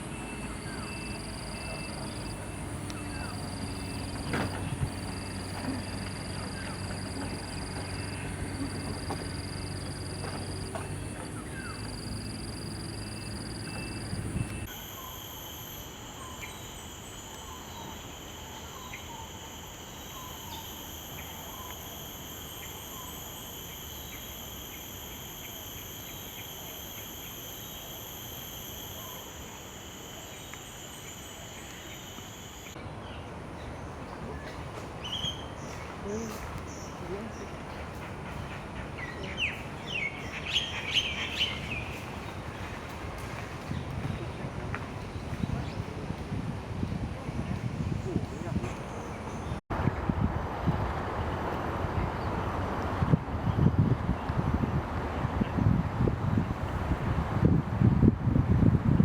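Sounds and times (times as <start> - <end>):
high insect drone: 0.0 - 49.6.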